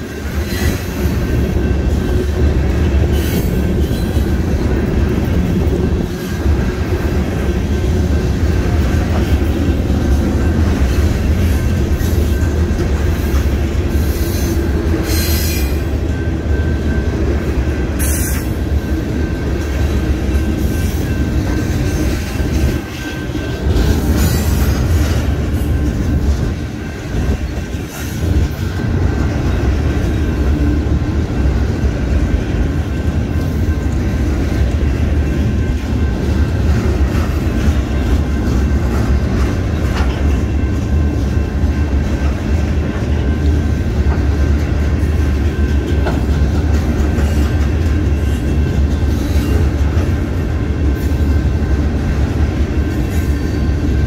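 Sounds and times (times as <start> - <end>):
train cars clanking: 0.0 - 54.0
train wheels rumbling on rail: 0.0 - 54.0.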